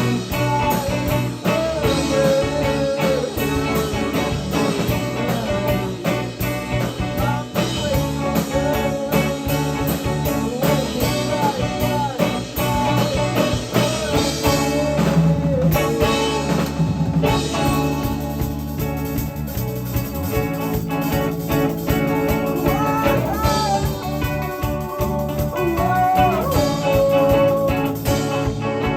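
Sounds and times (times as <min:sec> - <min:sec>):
rock band playing: 0:00.0 - 0:28.9.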